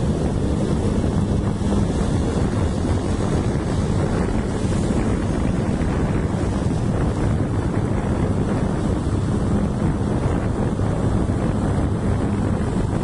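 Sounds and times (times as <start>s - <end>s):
vehicle engine and road rumble: 0.0s - 13.0s
wind buffeting microphone: 0.0s - 13.0s.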